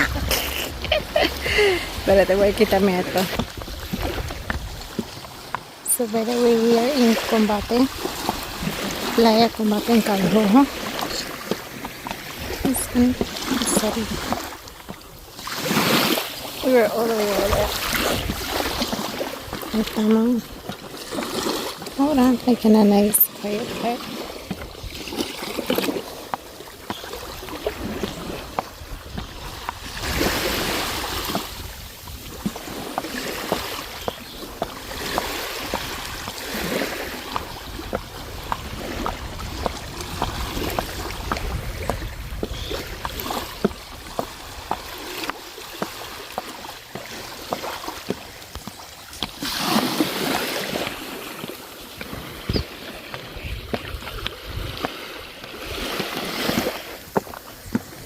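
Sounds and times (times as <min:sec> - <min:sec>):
waves washing onto beach: 0:00.0 - 0:58.0
wind rumbling on microphone: 0:00.0 - 0:58.0.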